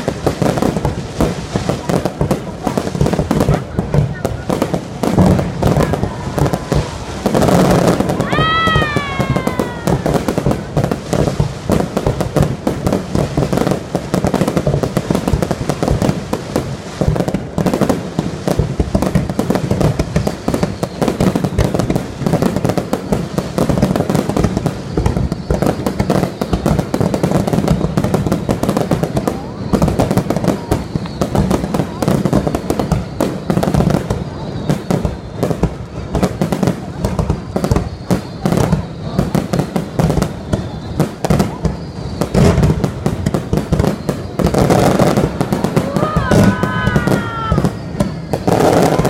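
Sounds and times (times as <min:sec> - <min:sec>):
falling firework whistle: 0:00.0 - 0:49.0
fireworks bursting and crackling: 0:00.0 - 0:49.0.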